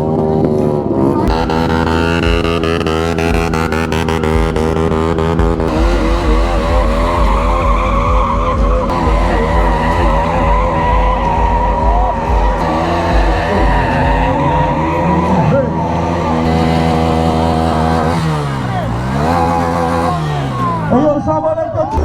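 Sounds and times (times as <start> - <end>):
motorcycle engine revving: 0.0 - 22.0
tyre squealing on pavement: 0.0 - 22.0.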